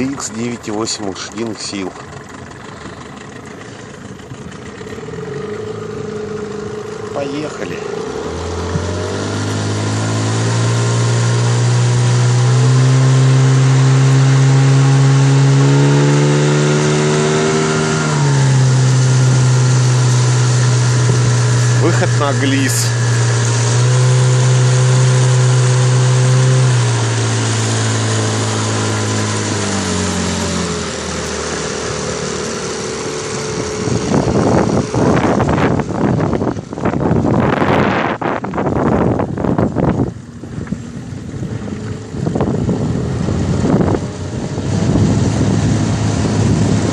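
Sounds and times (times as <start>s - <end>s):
outboard motor accelerating: 0.0s - 46.9s
wind: 0.0s - 46.9s.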